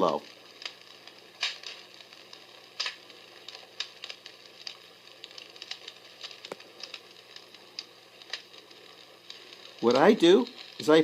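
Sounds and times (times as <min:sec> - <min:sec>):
faint hiss: 0:00.0 - 0:11.0
recorded fire crackling pops: 0:00.0 - 0:11.0.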